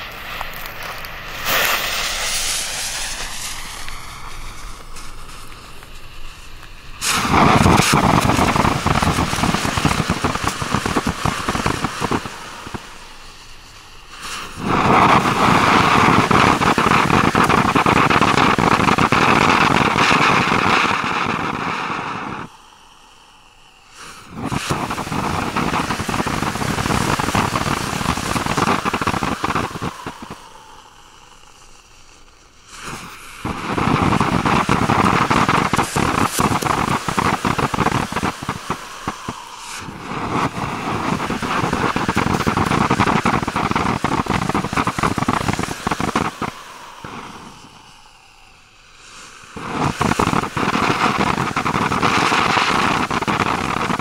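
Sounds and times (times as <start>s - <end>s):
firework hissing crackle: 0.0s - 54.0s.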